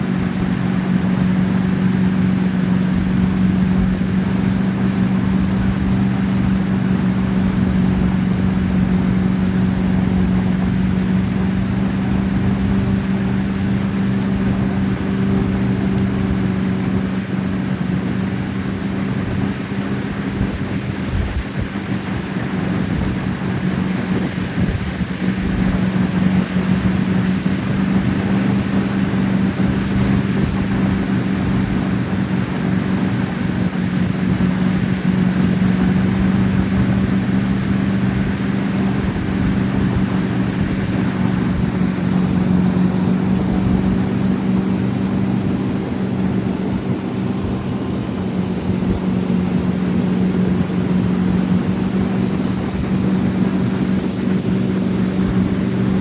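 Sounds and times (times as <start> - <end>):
boat engine humming: 0.0 - 56.0
water noise: 0.0 - 56.0
wind noise: 0.0 - 56.0.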